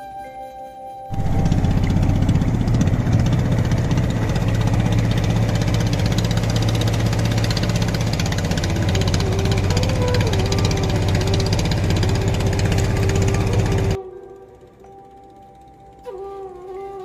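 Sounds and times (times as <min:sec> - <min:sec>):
boat engine chugging: 0:01.1 - 0:17.0.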